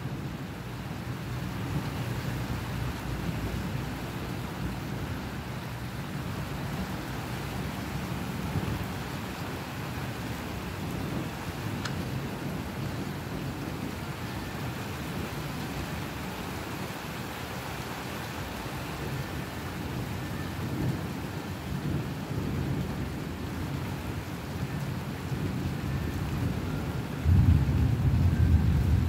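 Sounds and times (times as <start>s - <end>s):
low thunder rumbling: 0.0s - 17.2s, 19.0s - 29.0s
steady rain: 0.0s - 29.0s.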